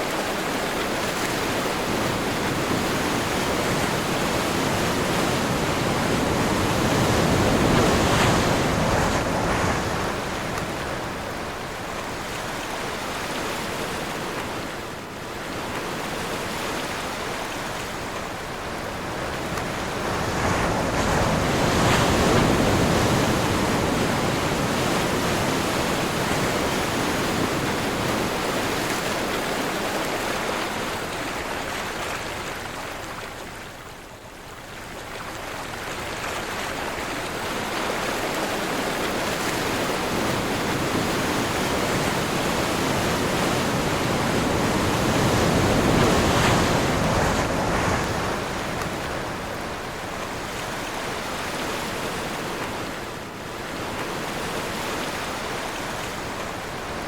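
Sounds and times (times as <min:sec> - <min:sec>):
strong wind: 0:00.0 - 0:17.0, 0:17.7 - 0:29.9, 0:37.6 - 0:57.0
ocean surf: 0:00.0 - 0:57.0.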